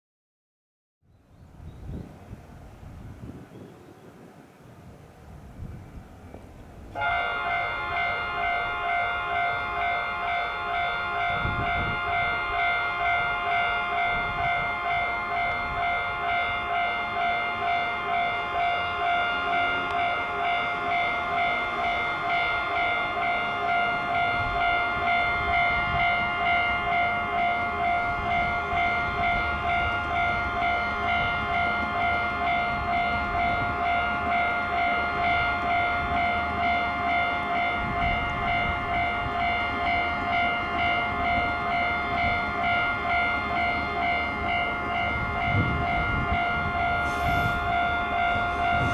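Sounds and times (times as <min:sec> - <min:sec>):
train running rumble: 0:01.5 - 0:48.9
level crossing alarm ringing: 0:07.0 - 0:48.9.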